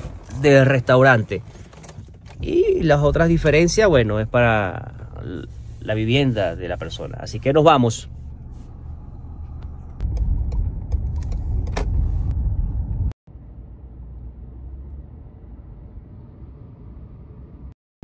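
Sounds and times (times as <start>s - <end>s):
car engine and road rumble: 0.0s - 17.8s.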